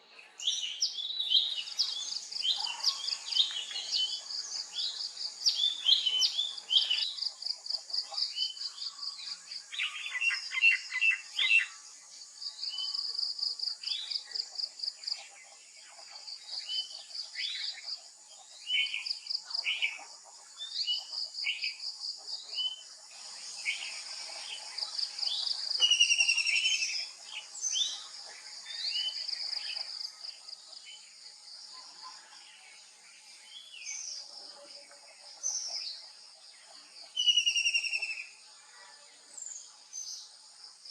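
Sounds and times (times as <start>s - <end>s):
wild birds chirping and whistling: 0.0s - 40.9s.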